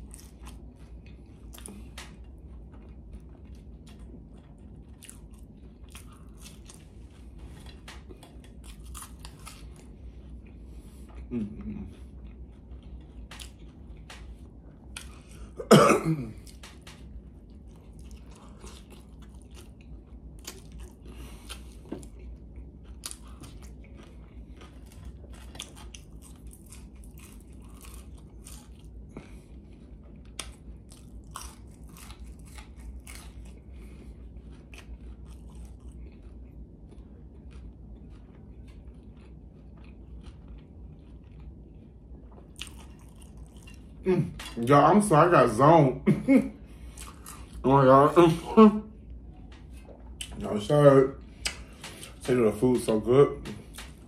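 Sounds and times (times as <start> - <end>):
person chewing and biting food: 0.0 - 44.9, 46.6 - 48.1, 51.2 - 54.0.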